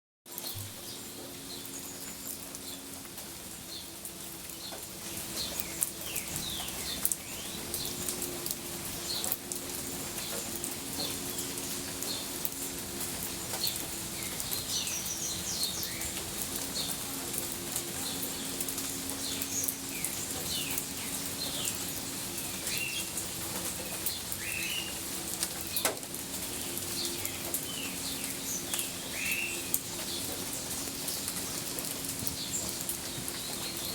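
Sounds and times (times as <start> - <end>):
birds chirping: 0.3 - 33.9
low two-tone hum: 0.4 - 33.9.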